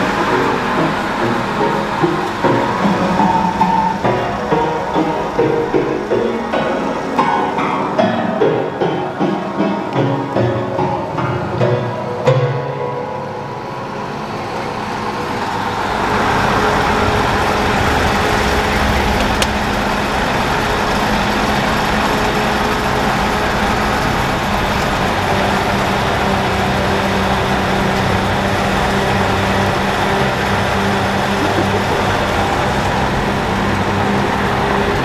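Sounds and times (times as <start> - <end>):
vehicle engine running: 0.0 - 7.7, 13.5 - 35.0
wagon rumbling: 0.0 - 35.0.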